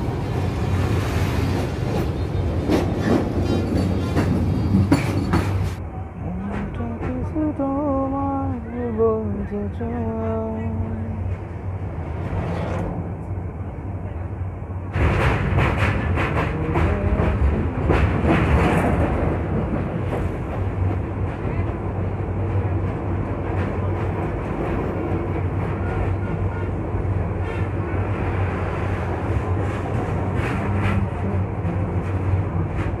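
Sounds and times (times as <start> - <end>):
clattering clicks of train: 0.0 - 13.4, 14.8 - 33.0
train wheels rumbling on rails: 0.0 - 33.0.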